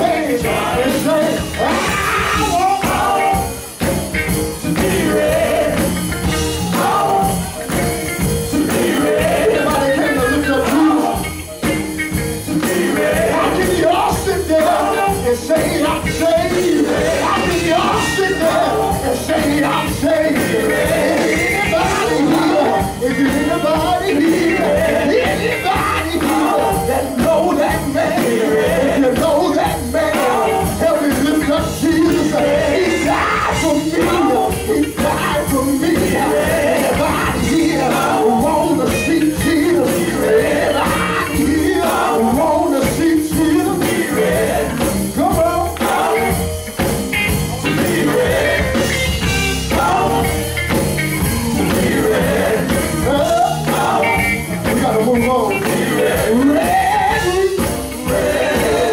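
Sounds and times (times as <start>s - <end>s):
drums: 0.0s - 58.9s
electric bass: 0.0s - 58.9s
gospel group singing: 0.0s - 58.9s
keyboard: 0.0s - 58.9s.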